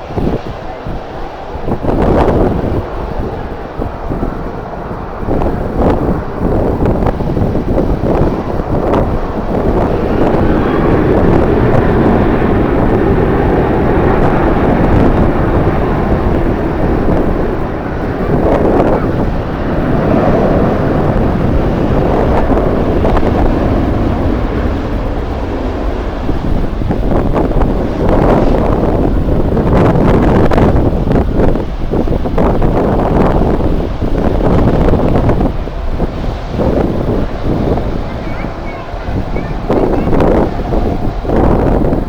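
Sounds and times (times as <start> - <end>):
jet engines: 0.0 - 42.0
wind buffeting microphone: 0.0 - 42.0.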